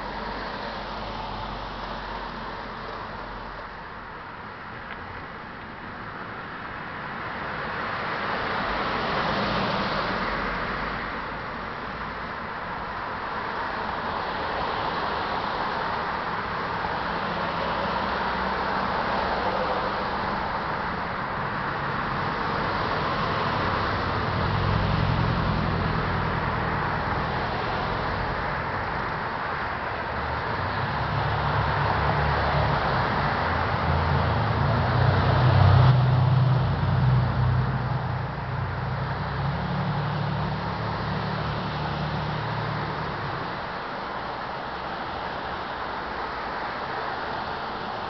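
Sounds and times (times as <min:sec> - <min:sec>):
cars driving past: 0:00.0 - 0:48.0
engine rumble: 0:00.0 - 0:48.0.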